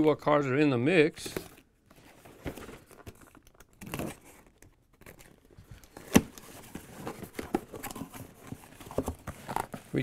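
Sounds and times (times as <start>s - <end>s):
cardboard rustling and scraping: 1.2s - 10.0s.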